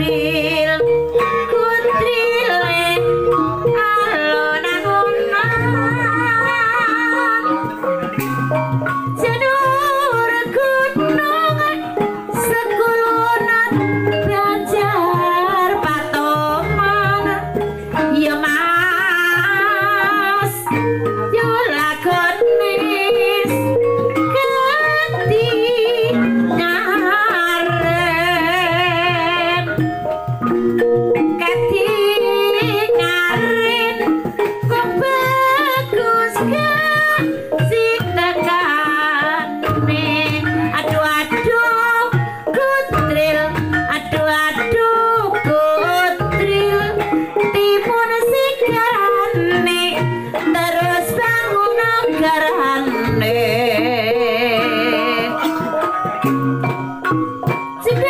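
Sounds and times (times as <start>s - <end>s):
person singing wavering melody: 0.0s - 30.5s, 31.2s - 58.0s
gamelan ensemble playing: 0.0s - 58.0s.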